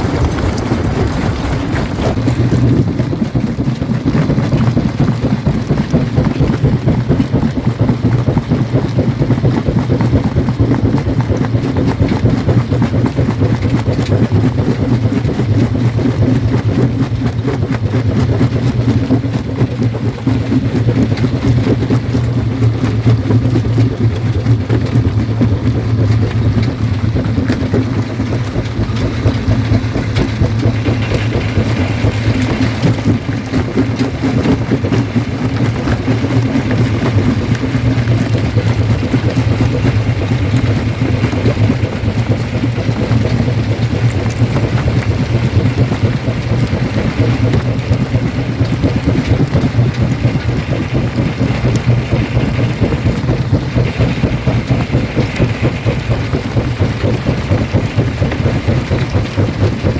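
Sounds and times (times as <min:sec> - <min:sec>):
jaw crusher droning: 0:00.0 - 0:59.9.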